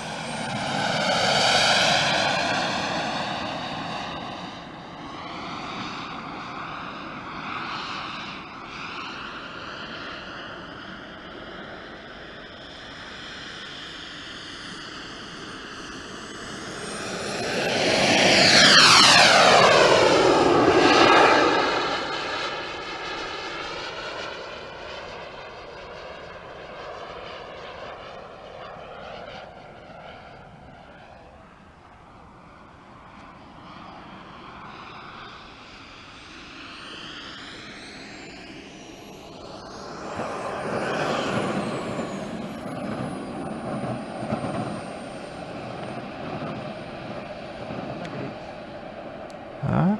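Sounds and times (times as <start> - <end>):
model jet whining past: 0.0 - 49.9.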